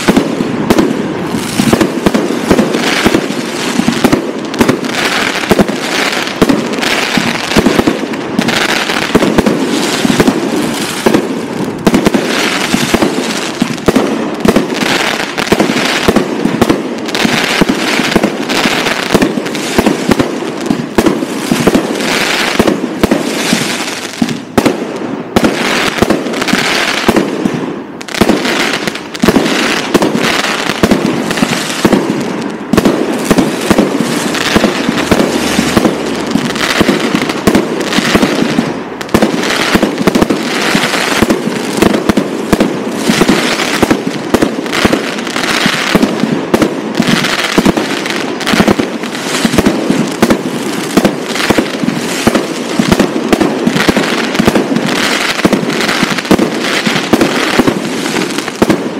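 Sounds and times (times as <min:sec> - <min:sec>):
fireworks launching and bursting: 0:00.0 - 0:58.9.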